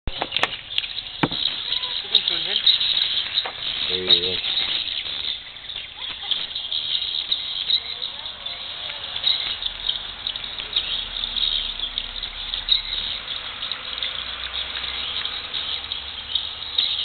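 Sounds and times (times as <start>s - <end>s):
birds twittering: 0.1s - 17.0s.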